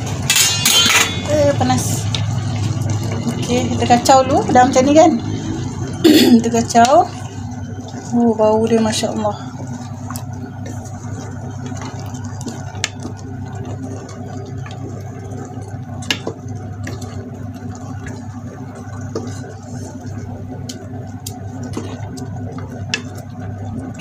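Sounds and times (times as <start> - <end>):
wet squelching of stirred rice: 2.0 - 24.0.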